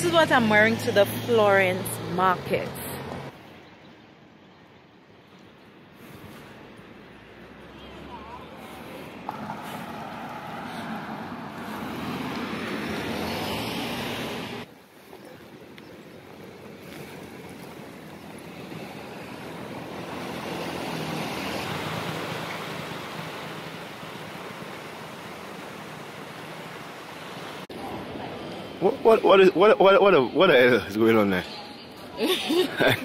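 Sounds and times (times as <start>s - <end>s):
city street noise: 0.0s - 33.0s.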